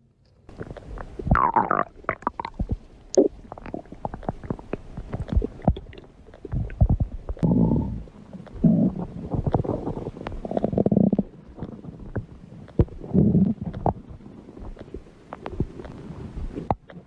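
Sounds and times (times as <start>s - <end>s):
stomach low rumble: 0.3s - 17.0s
stomach gurgling: 0.5s - 17.0s.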